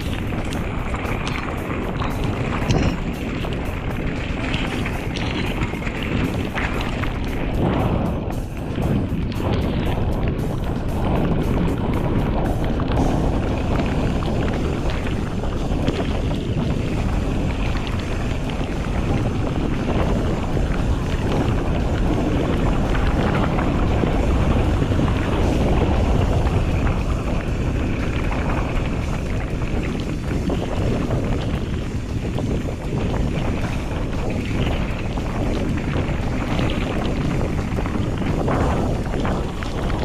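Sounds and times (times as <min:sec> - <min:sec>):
bike rattling: 0:00.0 - 0:40.0
tyres rumbling on dirt road: 0:00.0 - 0:40.0
wind rushing over microphone: 0:00.0 - 0:40.0.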